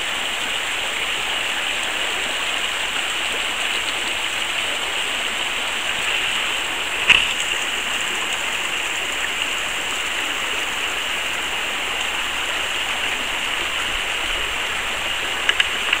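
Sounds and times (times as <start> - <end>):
waterfall splashing and rushing: 0.0 - 16.0.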